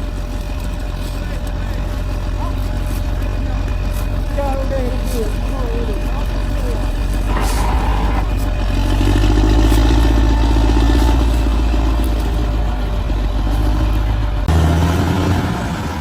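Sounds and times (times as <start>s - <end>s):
tracks and blade rattling: 0.0s - 14.5s
bulldozer diesel engine under load: 0.0s - 16.0s.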